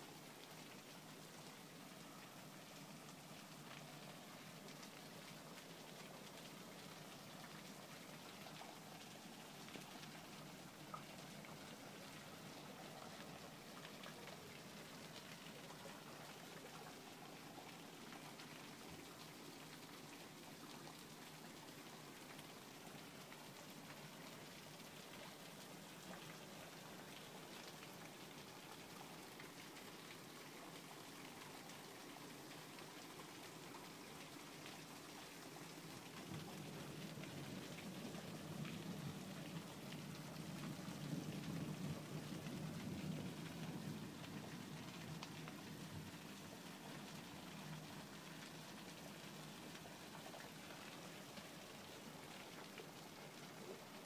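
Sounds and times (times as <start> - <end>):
rain falling on paving: 0.0 - 54.0.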